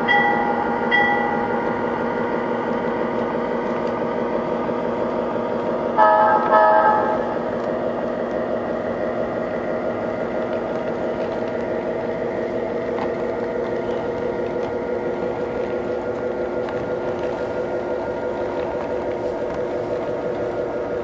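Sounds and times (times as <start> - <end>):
model train engine hum: 0.0 - 21.0
model train wheels rumbling: 0.0 - 21.0.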